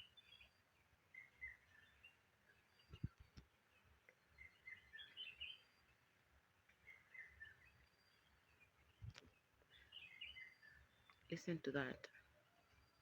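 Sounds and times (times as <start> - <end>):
birds chirping twitters: 0.0 - 13.0
quiet background hiss: 0.0 - 13.0.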